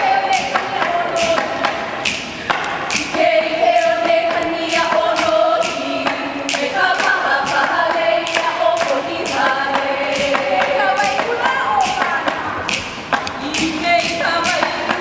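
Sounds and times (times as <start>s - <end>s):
voices chanting long held notes: 0.0s - 12.8s.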